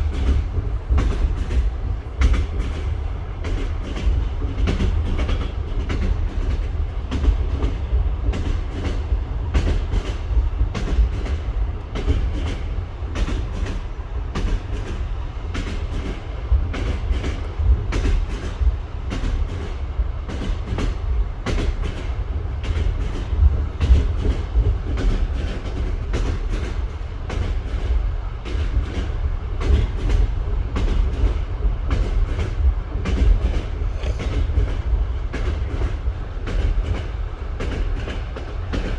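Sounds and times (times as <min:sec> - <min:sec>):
low train rumble: 0:00.0 - 0:38.9
train wheels clacking over rail joints: 0:00.0 - 0:38.9.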